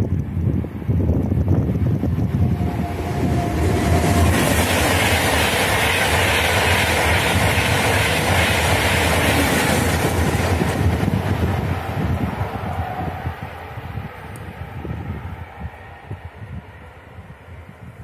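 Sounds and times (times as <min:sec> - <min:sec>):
high-speed train passing: 0:00.0 - 0:18.0.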